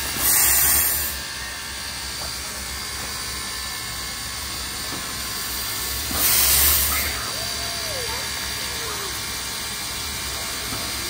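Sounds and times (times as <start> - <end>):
loud hiss of steam: 0.0 - 11.0.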